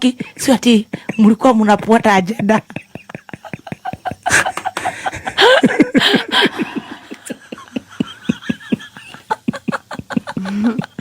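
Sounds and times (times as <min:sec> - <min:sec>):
person laughing: 0:02.0 - 0:11.0.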